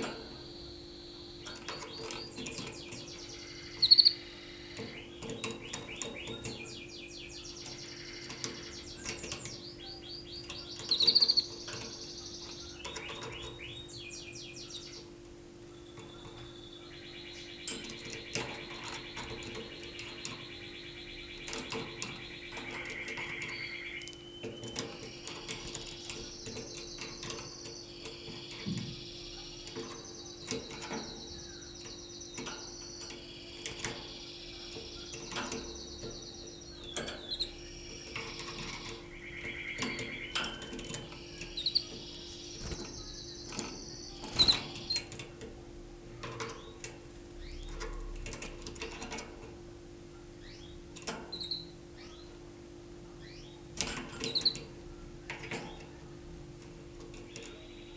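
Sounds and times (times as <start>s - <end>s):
canary singing rolling trills: 0.0s - 57.9s.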